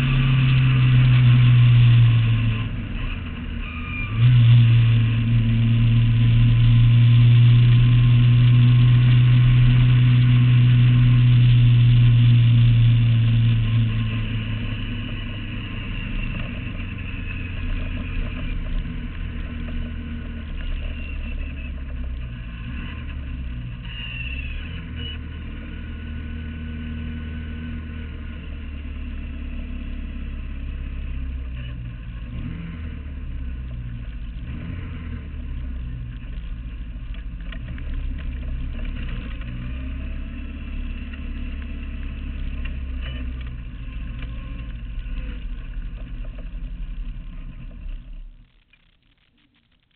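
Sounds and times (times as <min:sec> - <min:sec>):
car engine running at low revs: 0:00.0 - 0:49.9.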